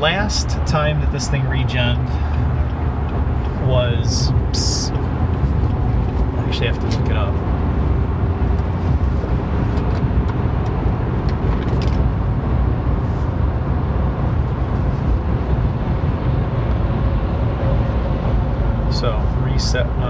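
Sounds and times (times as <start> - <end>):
diesel engine low rumble: 0.0 - 20.0.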